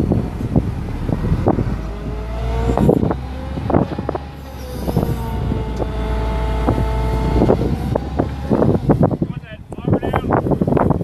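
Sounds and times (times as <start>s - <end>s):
diesel engine running: 0.0s - 11.0s
engine knocks: 0.0s - 11.0s.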